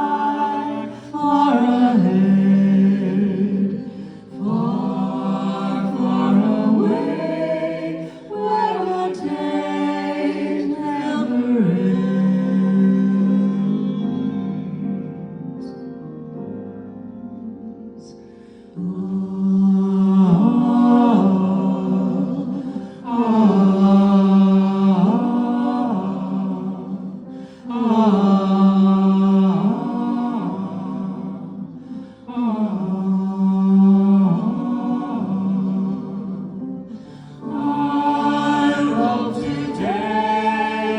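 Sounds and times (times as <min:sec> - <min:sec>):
voices chanting together: 0:00.0 - 0:14.6, 0:18.8 - 0:40.9.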